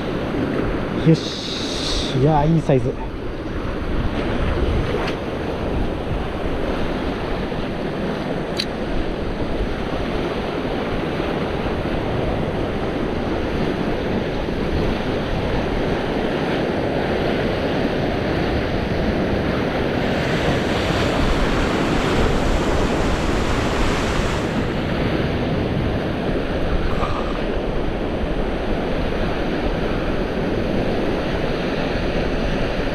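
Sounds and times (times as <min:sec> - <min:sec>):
surf on rocky shore: 0:00.0 - 0:32.9
wind on microphone: 0:00.0 - 0:32.9.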